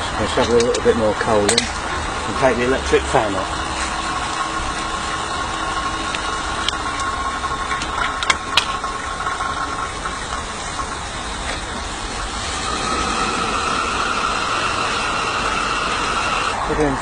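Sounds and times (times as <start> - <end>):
faint whine: 0.0 - 17.0
steam locomotive hiss and hum: 0.0 - 17.0.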